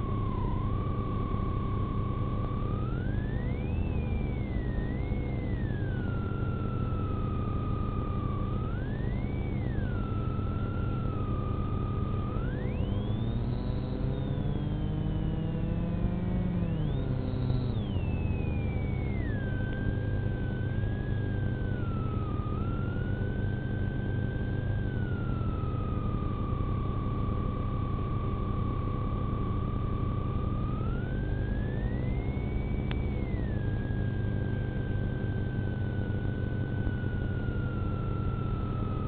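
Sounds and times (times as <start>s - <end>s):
high siren whine: 0.0s - 39.0s.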